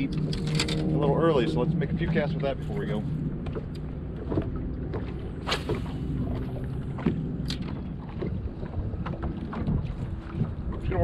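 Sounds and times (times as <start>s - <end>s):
low steady hum: 0.0s - 11.0s
wind buffeting microphone: 0.0s - 11.0s.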